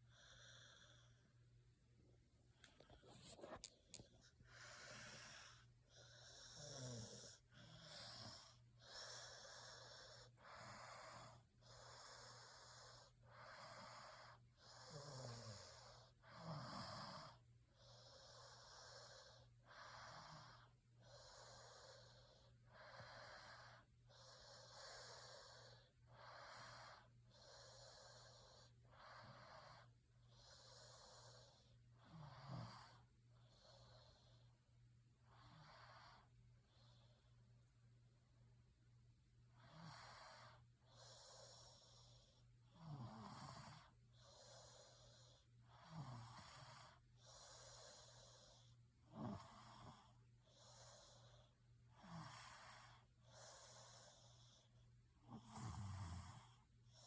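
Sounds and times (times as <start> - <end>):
faint snoring: 0.0 - 1.3, 2.6 - 34.6, 35.2 - 37.4, 39.5 - 57.0.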